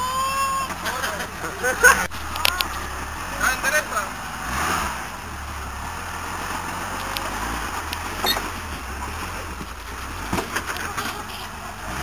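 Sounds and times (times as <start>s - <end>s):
engine running at low revs: 0.7s - 12.0s.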